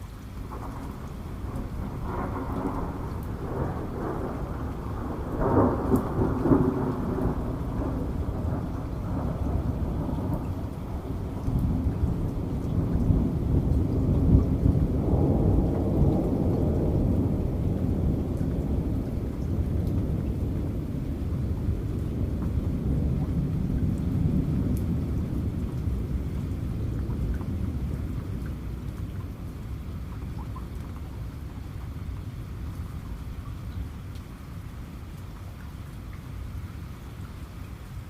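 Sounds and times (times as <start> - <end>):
heavy rain: 0.0 - 38.0
thunder rumbling: 0.4 - 31.5.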